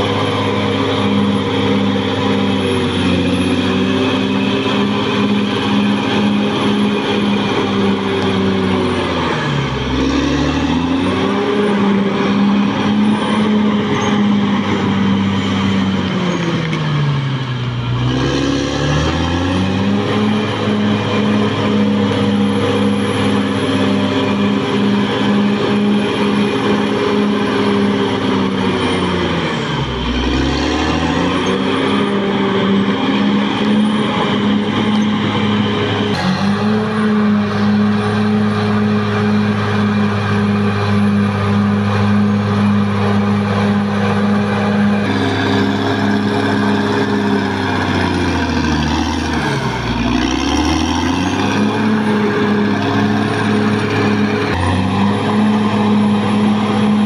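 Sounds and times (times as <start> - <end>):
bulldozer diesel engine running hard: 0.0 - 57.0.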